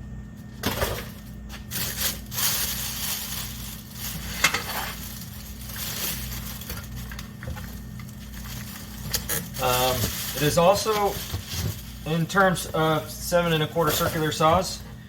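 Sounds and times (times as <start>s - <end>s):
packaging rustling and scraping: 0.3s - 15.0s.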